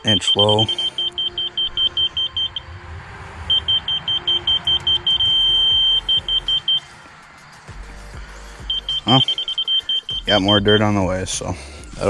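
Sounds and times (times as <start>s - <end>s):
rapid high beeps: 0.0s - 2.7s, 3.5s - 11.0s
steady tone: 0.0s - 10.9s
engine running low: 0.0s - 11.0s.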